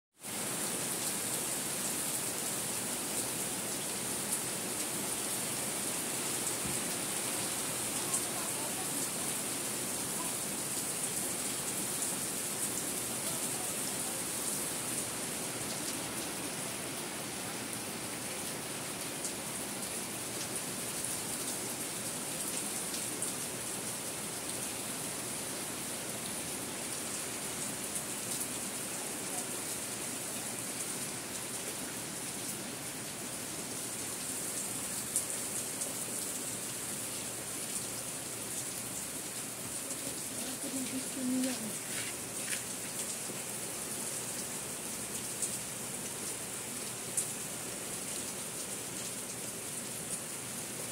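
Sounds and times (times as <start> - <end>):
steady rain on roofs: 0.1 - 50.9
water streaming off eaves: 0.1 - 50.9.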